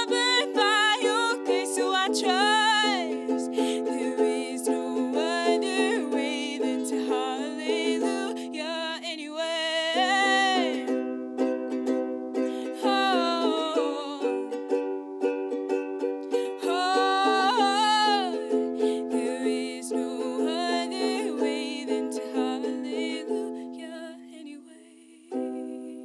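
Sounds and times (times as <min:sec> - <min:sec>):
woman singing: 0:00.0 - 0:11.0, 0:12.4 - 0:14.8, 0:16.4 - 0:26.0
ukulele strumming: 0:00.0 - 0:24.6, 0:25.3 - 0:26.0.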